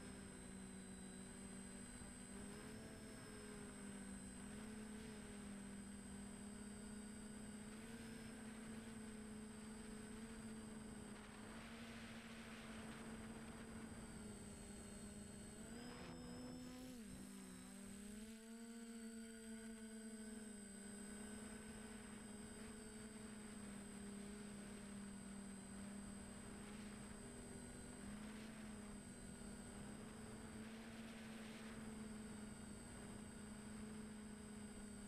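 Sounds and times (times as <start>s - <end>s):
quadcopter motors whirring: 0.0s - 35.0s.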